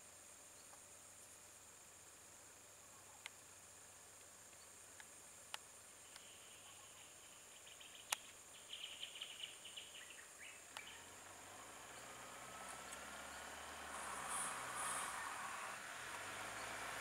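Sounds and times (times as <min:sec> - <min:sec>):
faint high insect drone: 0:00.0 - 0:17.0
faint rapid chirping: 0:00.2 - 0:17.0.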